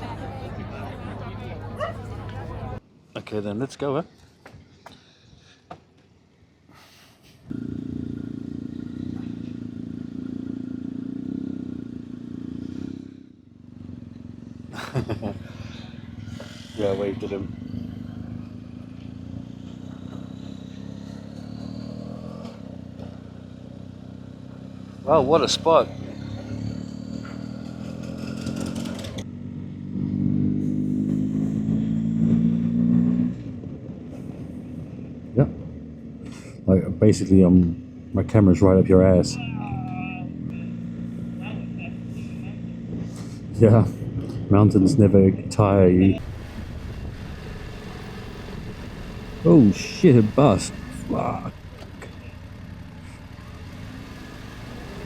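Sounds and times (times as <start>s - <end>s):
motorcycle engine running: 7.5s - 44.9s, 45.6s - 55.0s.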